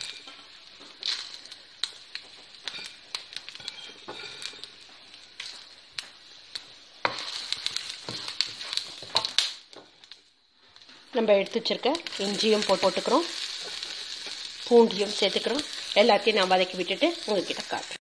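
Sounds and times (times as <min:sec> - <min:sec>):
spices sizzling in oil: 0:00.0 - 0:18.0.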